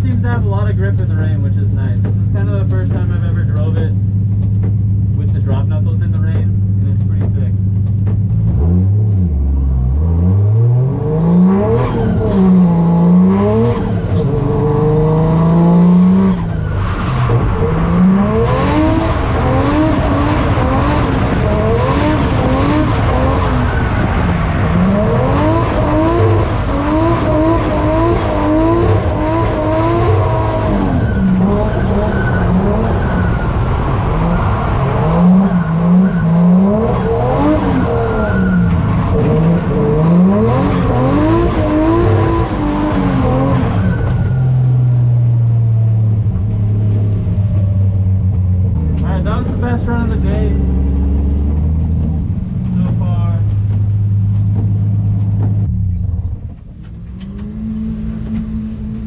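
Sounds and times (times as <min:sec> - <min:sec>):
car engine revving: 0:00.0 - 0:59.0
tyres skidding: 0:00.0 - 0:59.0.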